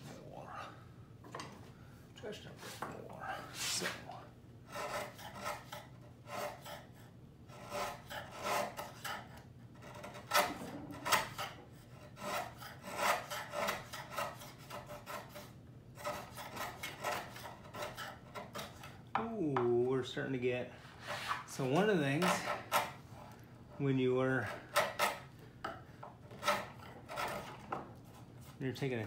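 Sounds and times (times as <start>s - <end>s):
hand tool scraping wood: 2.6s - 19.0s, 20.8s - 29.0s.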